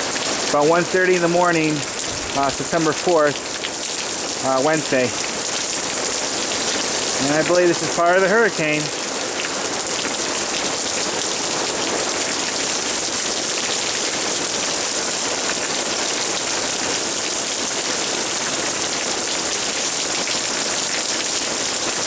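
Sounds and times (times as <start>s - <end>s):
heavy rain on ground: 0.0s - 22.0s.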